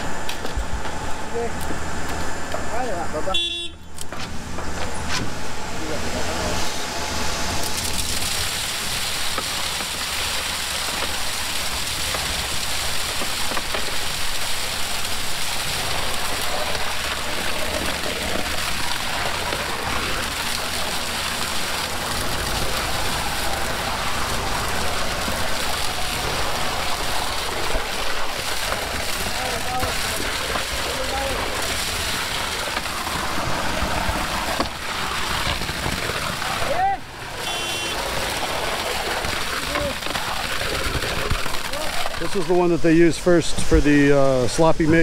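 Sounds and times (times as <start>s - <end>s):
pump truck engine hum: 0.0s - 43.8s
wet concrete gushing from hose: 5.0s - 45.0s.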